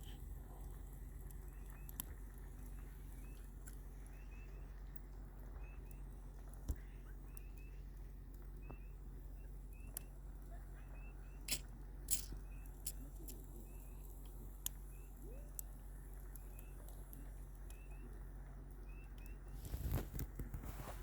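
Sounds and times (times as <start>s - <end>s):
burning wood popping: 0.0s - 21.0s
campfire crackling: 0.0s - 21.0s.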